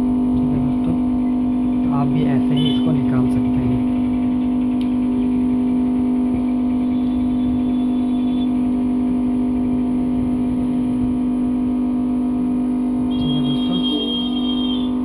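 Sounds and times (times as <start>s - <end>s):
vacuum pump humming: 0.0s - 15.0s.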